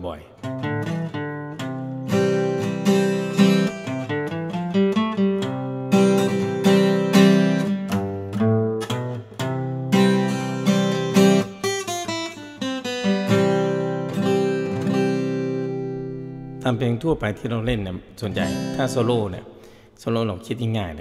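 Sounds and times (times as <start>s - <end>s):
acoustic guitar melody: 0.4s - 19.8s.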